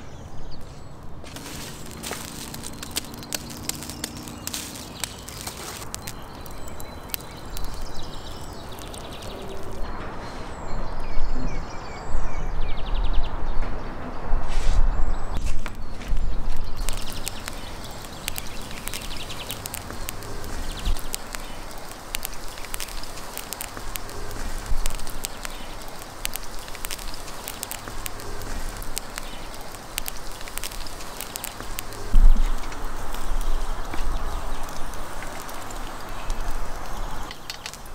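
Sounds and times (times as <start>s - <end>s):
meat sizzling on charcoal grill: 1.3s - 9.9s, 15.5s - 37.9s.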